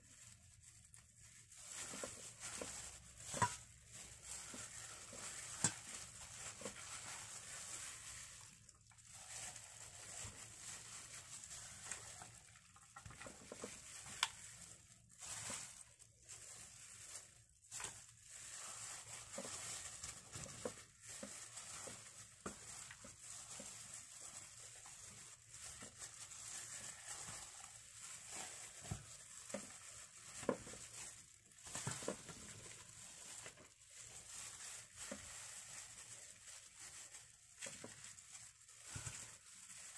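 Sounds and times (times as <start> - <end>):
gloved hand rubbing raw chicken: 0.0 - 39.9.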